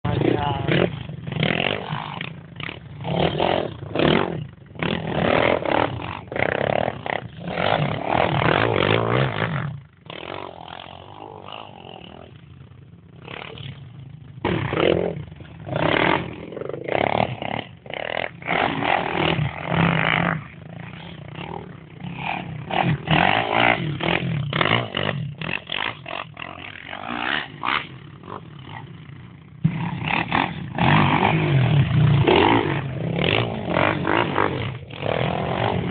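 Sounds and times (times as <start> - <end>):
quad engines revving: 0.0 - 35.9.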